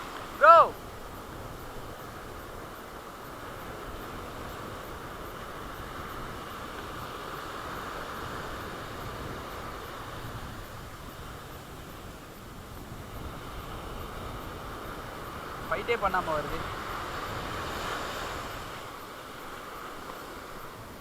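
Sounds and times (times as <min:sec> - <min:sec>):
sea surf: 0:00.0 - 0:21.0
wind on microphone: 0:00.0 - 0:21.0.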